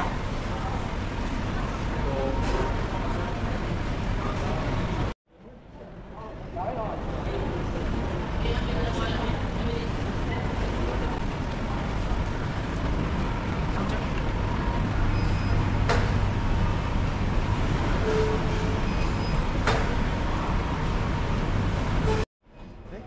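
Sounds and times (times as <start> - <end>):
bus engines and traffic rumble: 0.0 - 22.9.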